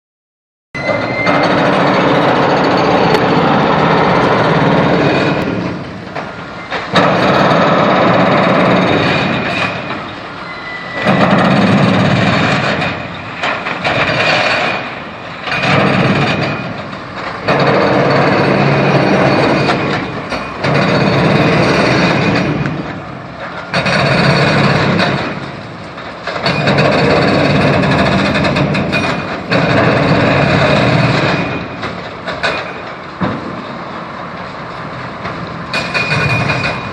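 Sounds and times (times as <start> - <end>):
construction machinery roaring: 0.8 - 36.9.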